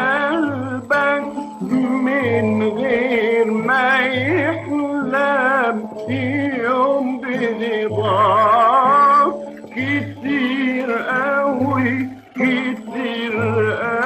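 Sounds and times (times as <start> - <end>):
person singing with vibrato: 0.0 - 14.0
plucked string accompaniment: 0.0 - 14.0.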